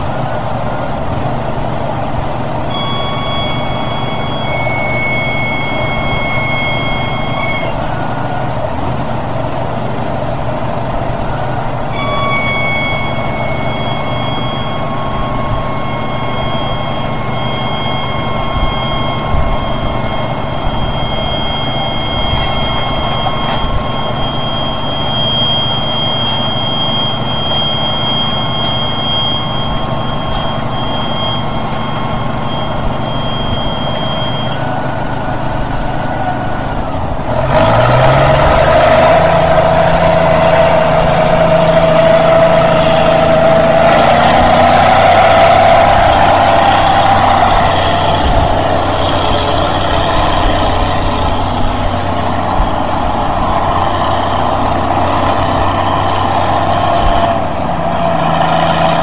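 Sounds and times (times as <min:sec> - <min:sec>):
high whine: 0:00.0 - 0:59.0
truck engine running: 0:00.0 - 0:59.0.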